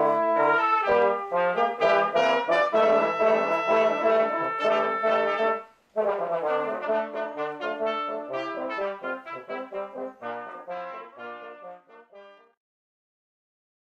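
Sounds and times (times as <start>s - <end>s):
brass ensemble playing: 0.0s - 12.6s.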